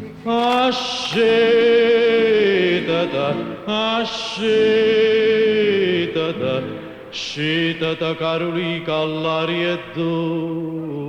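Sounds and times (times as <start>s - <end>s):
man singing with vibrato: 0.0s - 11.0s.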